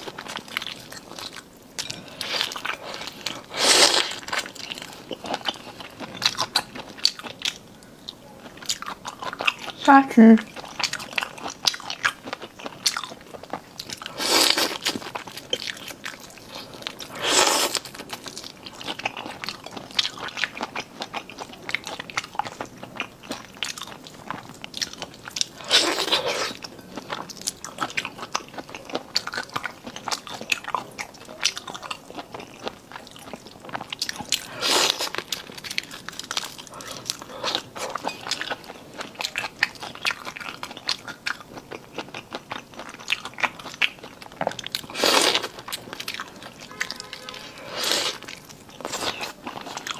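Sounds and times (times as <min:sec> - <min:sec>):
chewing and crunching seafood: 0:00.0 - 0:49.9.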